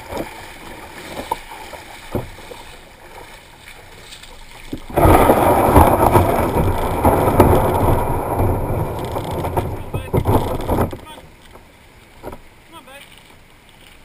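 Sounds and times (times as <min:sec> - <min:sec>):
kayak hull scraping on pebbles: 0:00.0 - 0:14.0
shallow water lapping: 0:00.0 - 0:14.0.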